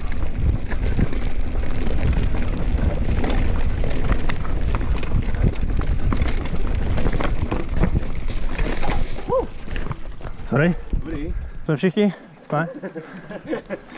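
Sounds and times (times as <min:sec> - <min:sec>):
wind on microphone: 0:00.0 - 0:11.6
bike knocking and rattling: 0:00.0 - 0:11.9
tyres rumbling on dirt: 0:00.0 - 0:11.9.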